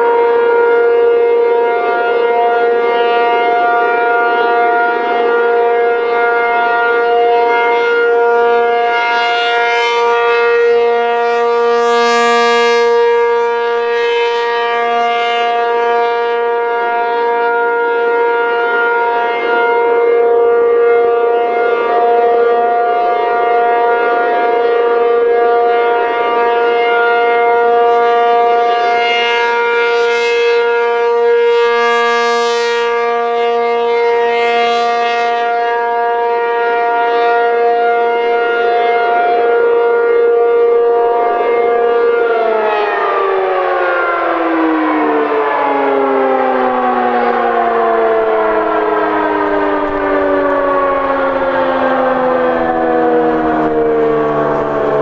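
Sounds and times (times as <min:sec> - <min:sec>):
rotating siren steady tone: 0:00.0 - 0:55.0.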